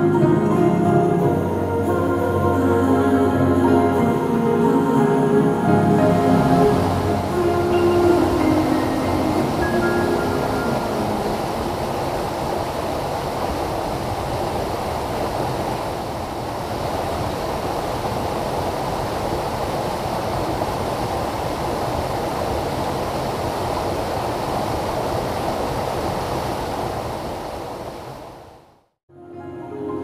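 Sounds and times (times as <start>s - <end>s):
stream rushing over boulders: 0.0s - 28.8s.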